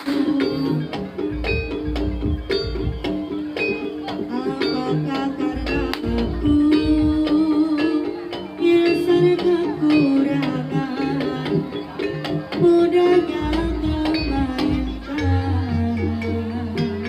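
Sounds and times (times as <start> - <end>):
drum strokes and percussion: 0.0 - 17.0
instrumental ensemble melody: 0.0 - 17.0.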